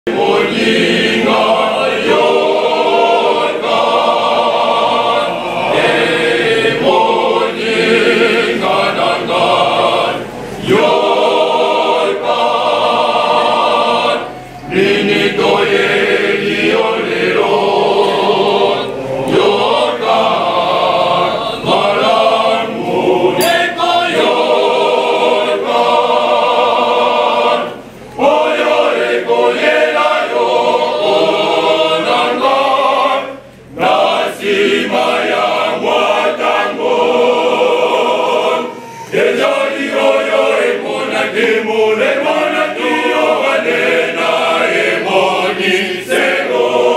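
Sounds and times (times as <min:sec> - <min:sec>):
church choir singing: 0:00.0 - 0:46.9.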